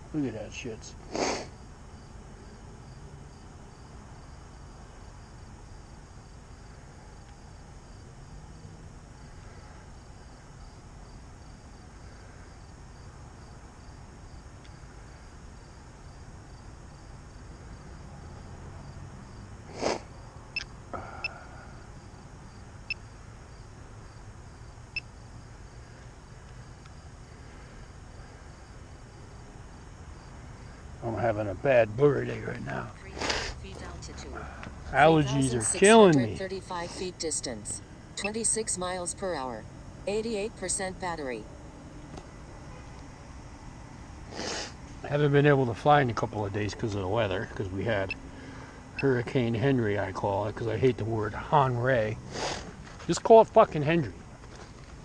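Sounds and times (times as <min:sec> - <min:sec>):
crickets chirping: 0:00.0 - 0:55.0
low background hum: 0:00.0 - 0:55.0.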